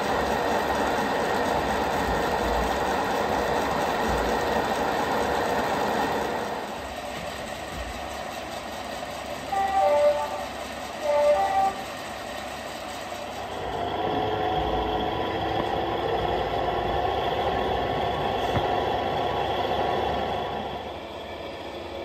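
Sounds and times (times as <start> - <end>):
model diesel locomotive drone: 0.0 - 22.0.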